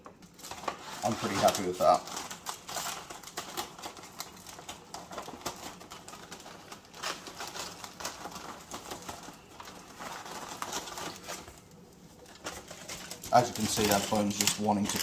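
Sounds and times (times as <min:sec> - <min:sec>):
aluminium foil crinkling: 0:00.0 - 0:15.0.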